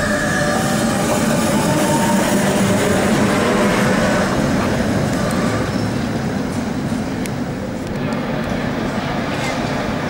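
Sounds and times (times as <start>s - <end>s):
tram wheels on rail: 0.0s - 10.0s.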